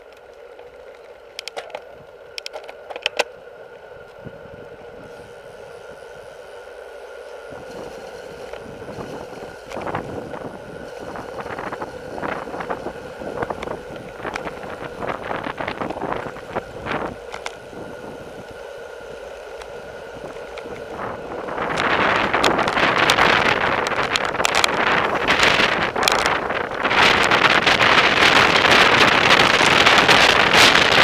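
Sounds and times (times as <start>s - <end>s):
bike tyre and road noise: 0.0s - 31.0s
steady hum: 0.0s - 31.0s
wind rushing over microphone: 3.9s - 31.0s.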